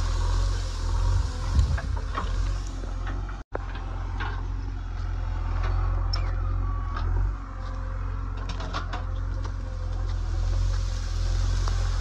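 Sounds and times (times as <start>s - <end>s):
backhoe arm dragging dry brush: 0.0s - 12.0s
diesel engine running under load: 0.0s - 12.0s.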